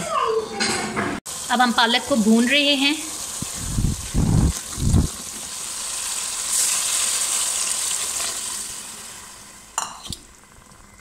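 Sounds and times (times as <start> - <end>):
food sizzling in a pot: 0.8 - 11.0
water hissing in hot pot: 1.3 - 11.0.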